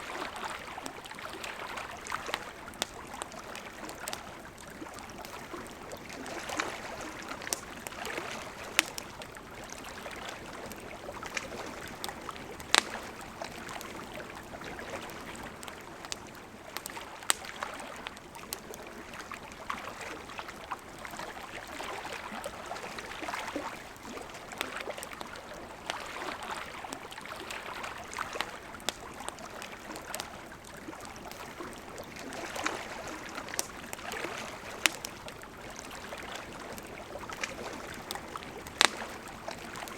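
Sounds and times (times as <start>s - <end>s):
river water gurgling: 0.0s - 39.9s
campfire crackling and popping: 0.1s - 39.9s.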